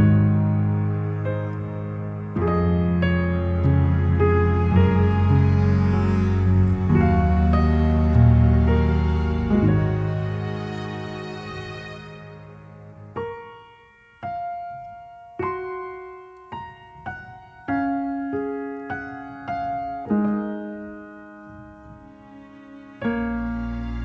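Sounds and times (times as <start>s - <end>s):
soft solo piano: 0.0s - 24.0s.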